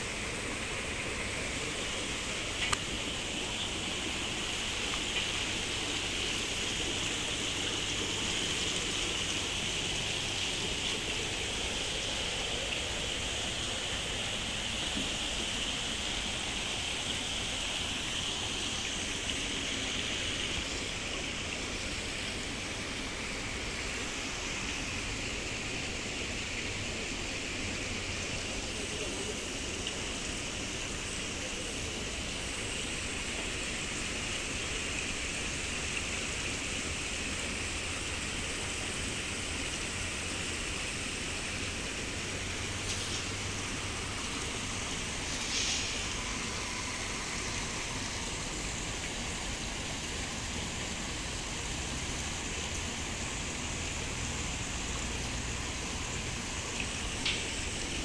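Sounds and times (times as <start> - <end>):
water splashing into a pond: 0.0 - 58.0.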